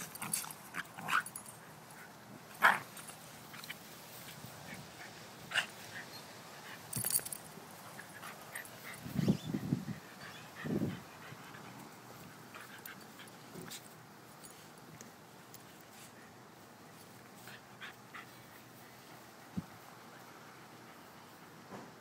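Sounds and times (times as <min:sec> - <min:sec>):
dogs play-fighting: 0:00.0 - 0:21.4.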